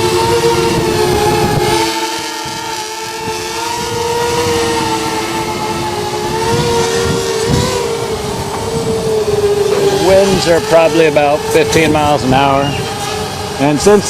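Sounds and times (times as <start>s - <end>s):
quadcopter motors whining: 0.0s - 14.0s
wind buffeting microphone: 0.0s - 14.0s.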